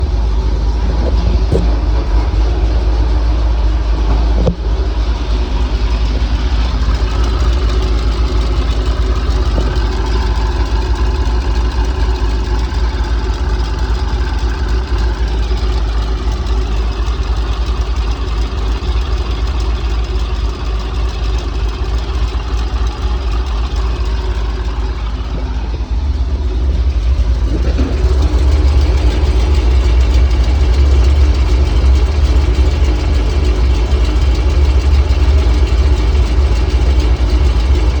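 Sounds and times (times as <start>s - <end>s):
car engine idling: 0.0s - 38.0s
engine ticking: 0.0s - 38.0s.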